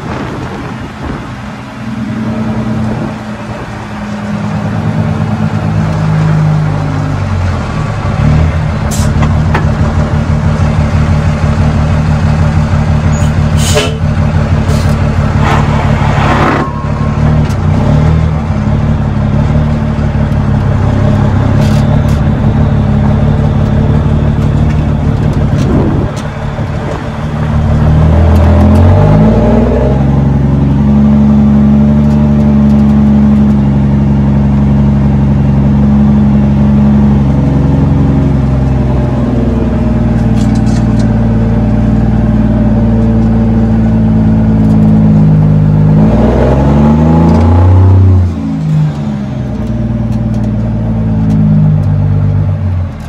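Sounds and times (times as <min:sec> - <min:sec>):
diesel truck engine under load: 0:00.0 - 0:53.0.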